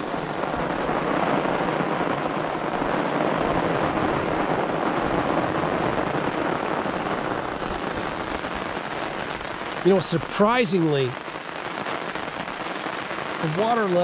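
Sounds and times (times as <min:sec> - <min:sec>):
rain on canvas awning: 0:00.0 - 0:14.0.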